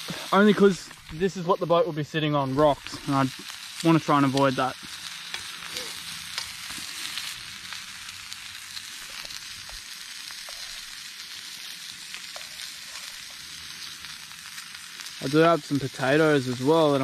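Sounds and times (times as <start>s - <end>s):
food sizzling on grill: 0.0s - 17.0s
small pops and crackles: 2.6s - 16.7s.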